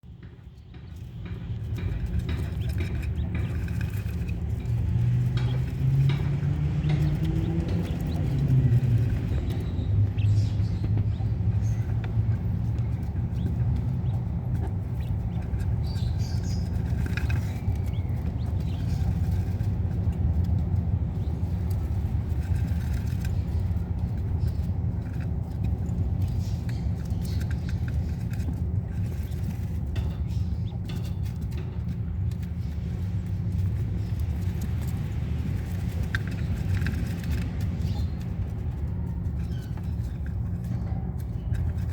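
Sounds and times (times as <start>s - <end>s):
steady low rumble: 0.0s - 41.9s.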